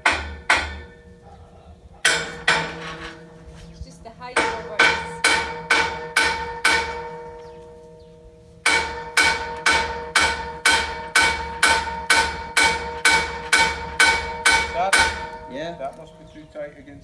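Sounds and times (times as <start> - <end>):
hammer ringing on steel scaffold: 0.0 - 1.3, 2.0 - 3.5, 4.3 - 16.8.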